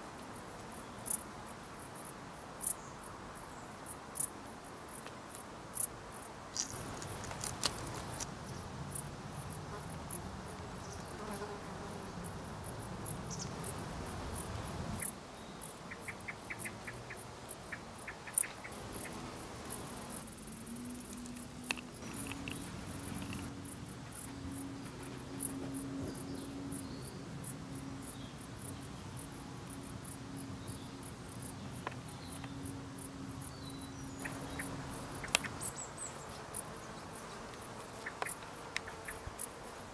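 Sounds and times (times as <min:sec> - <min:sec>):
bush cricket chirping: 0:00.0 - 0:39.9.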